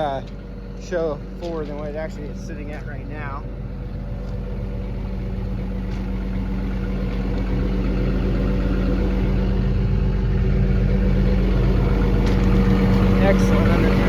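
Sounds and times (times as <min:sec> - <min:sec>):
diesel excavator engine idling: 0:00.0 - 0:14.0.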